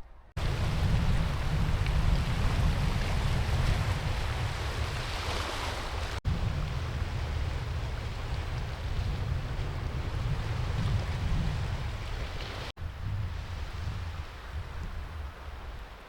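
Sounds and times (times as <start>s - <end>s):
wind buffeting microphone: 0.3s - 16.0s
sea surf on shore: 0.4s - 16.0s.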